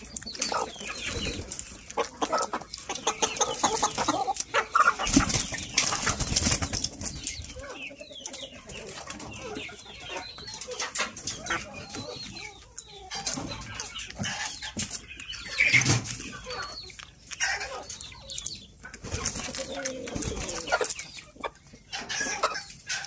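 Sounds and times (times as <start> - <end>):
chickens clucking: 0.0 - 23.0
chickens pecking corn from hand: 0.0 - 23.0.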